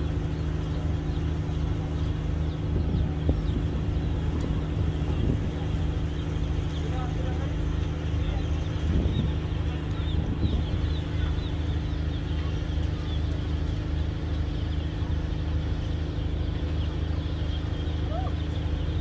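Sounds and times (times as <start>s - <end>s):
diesel engines idling: 0.0s - 19.0s.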